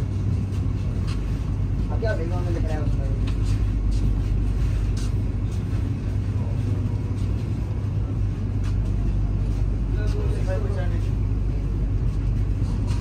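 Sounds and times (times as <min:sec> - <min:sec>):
constant low hum: 0:00.0 - 0:13.0
train rumble: 0:00.0 - 0:13.0.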